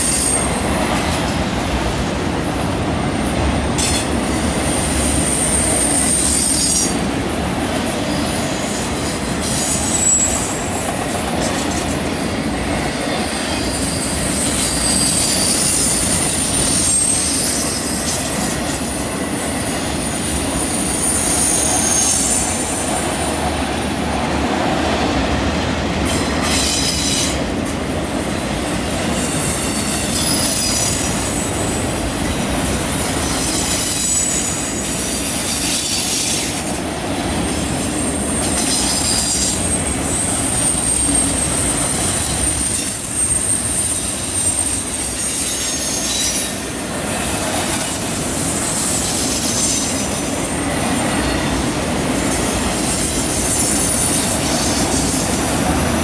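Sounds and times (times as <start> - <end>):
train wheels rumbling on rail: 0.0 - 56.0
high-pitched wheel squeal: 3.8 - 7.1, 7.8 - 23.5, 24.3 - 36.8, 37.4 - 56.0.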